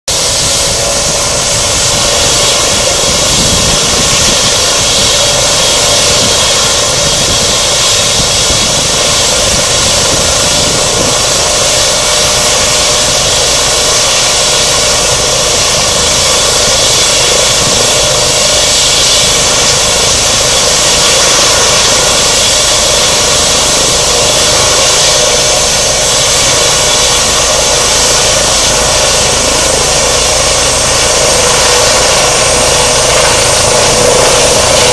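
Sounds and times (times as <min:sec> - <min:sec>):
helicopter turbine whine: 0:00.0 - 0:34.9
rushing hiss: 0:00.1 - 0:34.9.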